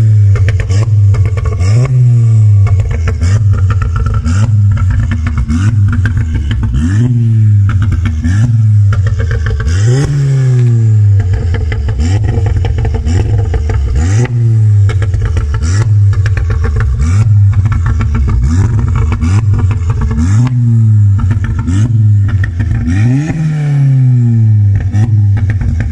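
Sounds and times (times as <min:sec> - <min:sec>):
car engine revving: 0:00.0 - 0:25.9
exhaust pops and crackles: 0:00.0 - 0:25.9.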